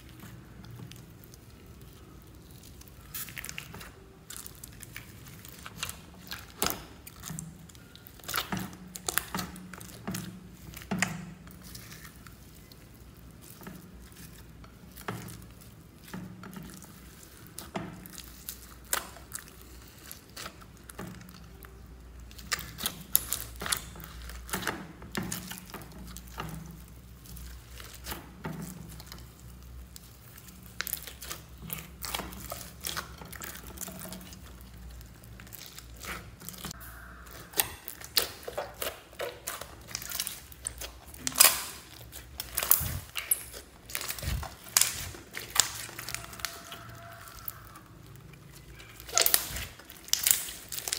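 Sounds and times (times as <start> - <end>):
hands squishing slime: 0.0 - 50.9.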